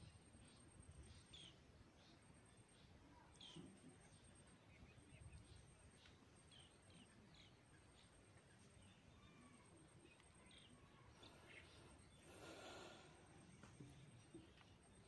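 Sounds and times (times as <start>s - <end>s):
faint bird chirps: 0.0s - 15.0s
low outdoor background hiss: 0.0s - 15.0s.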